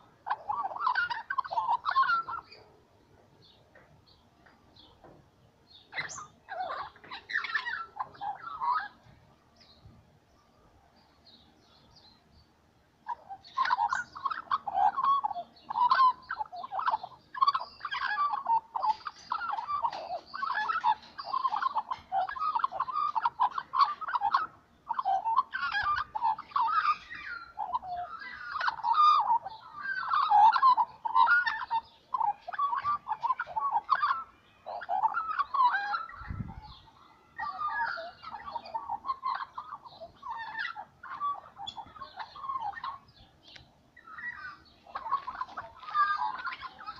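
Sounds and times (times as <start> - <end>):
magpies warbling: 0.0 - 2.7, 5.8 - 9.1, 13.0 - 46.9.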